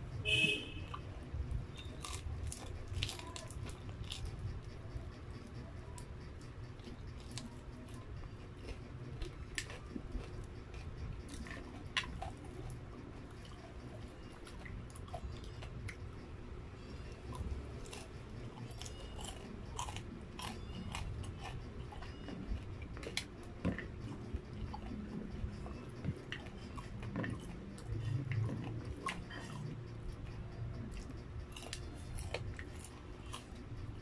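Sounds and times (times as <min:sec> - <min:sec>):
chewing crispy fried chicken: 0:00.0 - 0:34.0.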